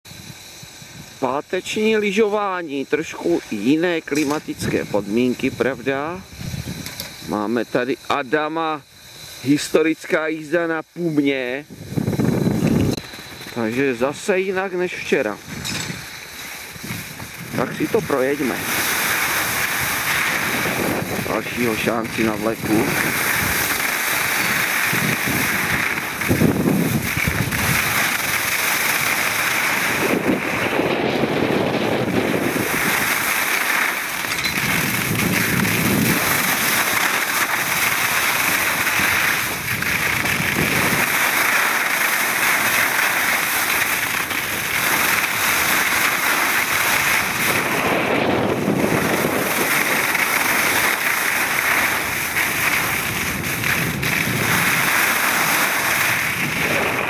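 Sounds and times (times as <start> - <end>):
wind rushing over microphone: 0.1 - 9.9, 10.9 - 57.0
skis scraping on snow: 1.5 - 57.0.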